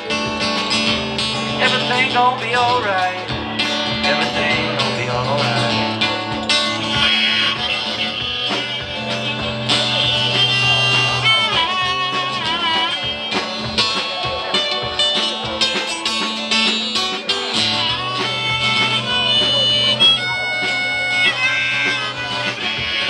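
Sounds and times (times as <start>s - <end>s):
acoustic guitar strummed: 0.0s - 23.0s
bending lead melody: 0.0s - 23.0s
drum kit: 0.0s - 23.0s.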